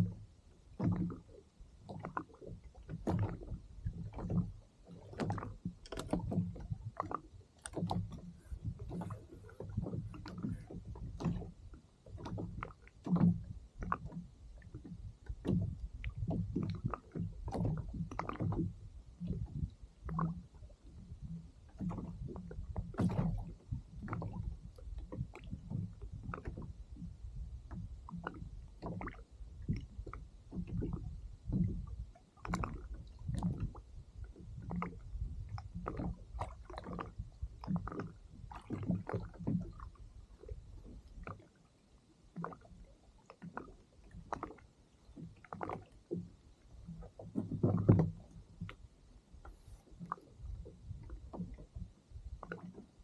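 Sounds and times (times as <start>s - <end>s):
waves lapping against kayak hull: 0.0s - 53.0s.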